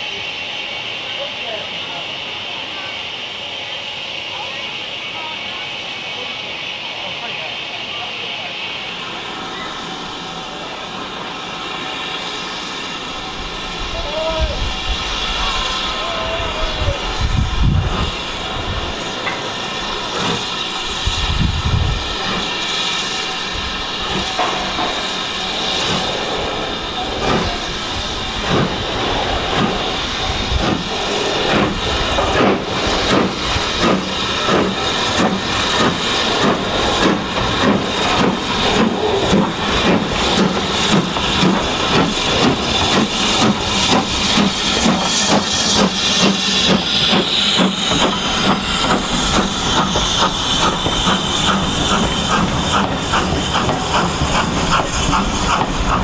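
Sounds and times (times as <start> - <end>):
steam hissing: 0.0 - 56.0
steam locomotive exhaust beats: 0.0 - 56.0
train coaches rolling past: 0.0 - 56.0.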